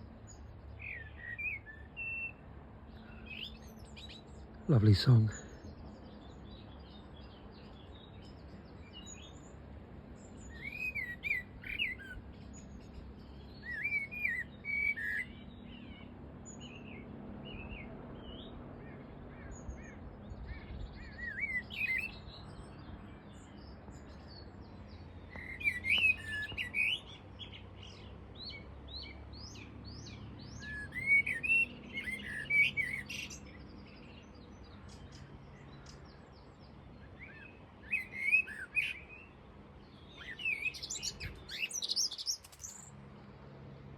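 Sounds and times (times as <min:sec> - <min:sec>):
blackbird singing: 0:00.0 - 0:42.9.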